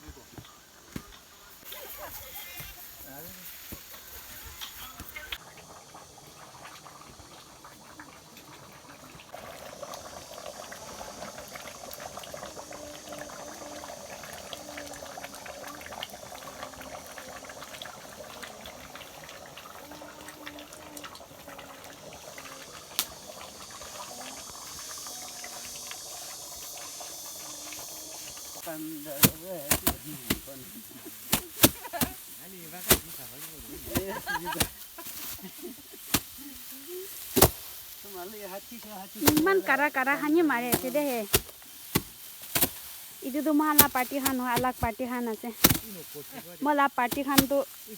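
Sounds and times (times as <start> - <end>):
pot boiling and bubbling: 0.0 - 47.9
small pops and crackles: 2.5 - 47.9.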